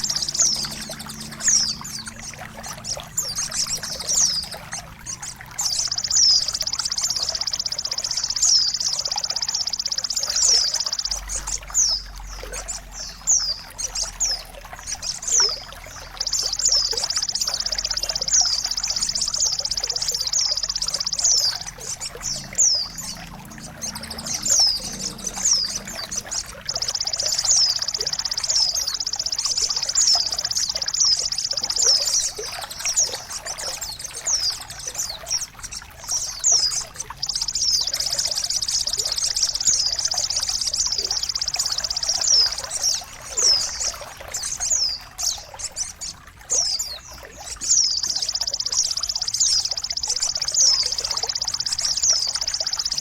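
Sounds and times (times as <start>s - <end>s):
songbird chirps and trills: 0.0s - 53.0s.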